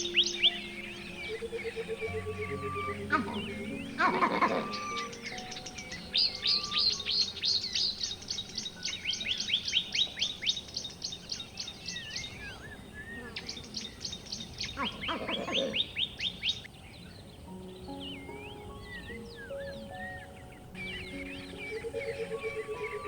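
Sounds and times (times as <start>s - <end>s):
birds chirping rapid runs: 0.0s - 23.0s
lower-pitched bird call: 0.0s - 23.0s.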